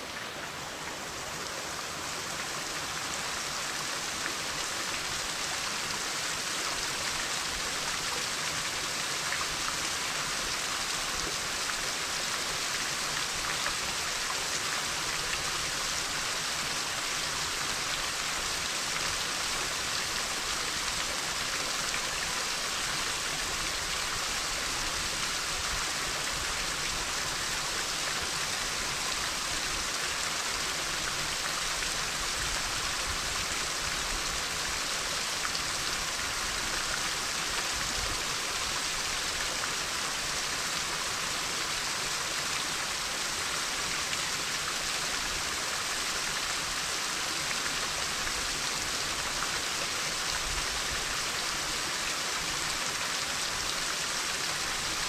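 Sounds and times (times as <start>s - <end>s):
rushing water hiss: 0.0s - 55.0s.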